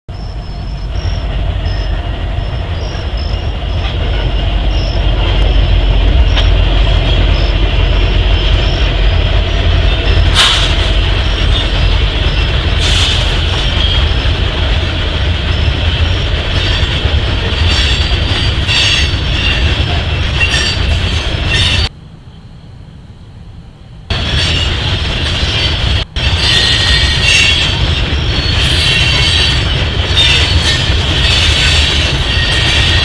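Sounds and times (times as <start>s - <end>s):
freight train rumbling: 0.1s - 33.0s.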